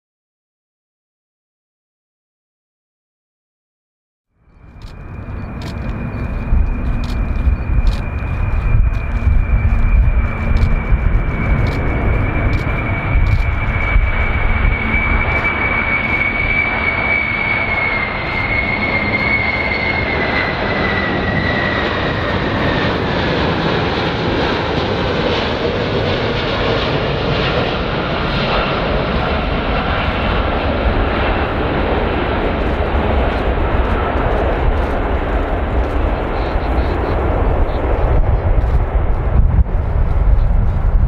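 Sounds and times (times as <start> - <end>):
jet engines roaring and whining: 4.4 - 41.0.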